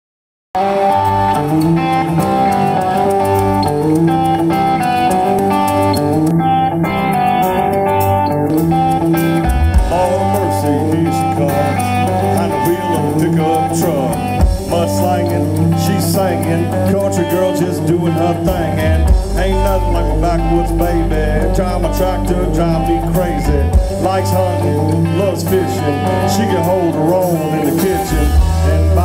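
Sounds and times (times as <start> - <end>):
live country band playing: 0.6 - 29.0.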